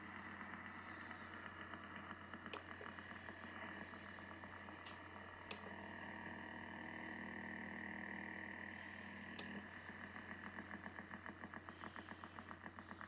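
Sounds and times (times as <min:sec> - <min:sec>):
faint hum tones: 0:00.0 - 0:13.0.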